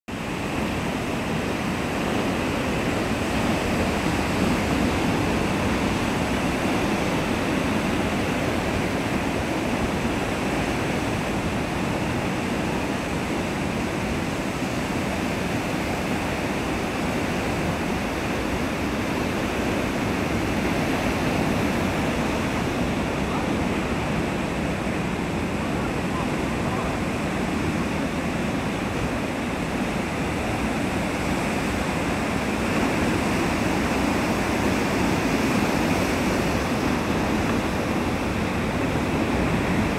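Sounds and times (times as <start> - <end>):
heavy surf breaking: 0.1 - 39.9.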